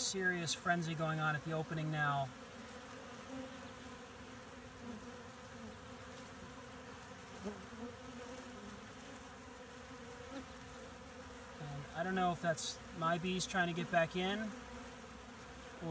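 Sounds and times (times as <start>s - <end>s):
bees buzzing hum: 0.0s - 15.9s
single bee buzzing past: 0.0s - 15.9s.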